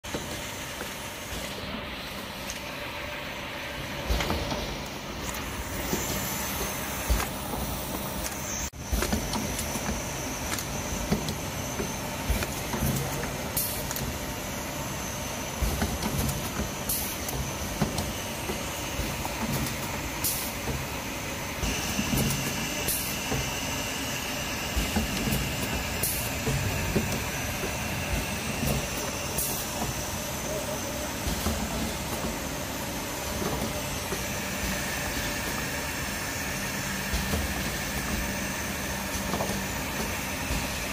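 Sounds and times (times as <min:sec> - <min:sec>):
machine humming: 0:00.1 - 0:40.9.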